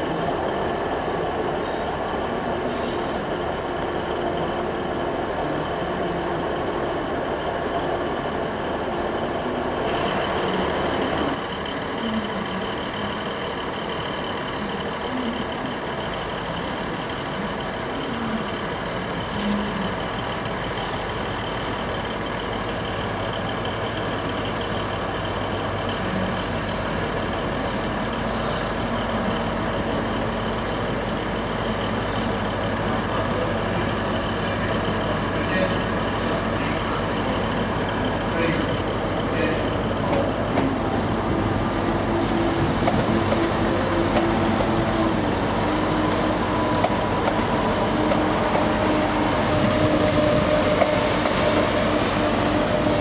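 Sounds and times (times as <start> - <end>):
diesel engine droning: 0.0 - 53.0
diesel train running along tracks: 0.0 - 53.0.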